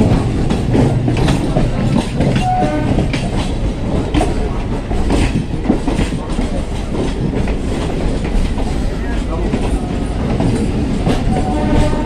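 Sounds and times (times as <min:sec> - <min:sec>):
train wheels rumbling on track: 0:00.0 - 0:12.0
wheels clacking over rail joints: 0:00.0 - 0:12.0.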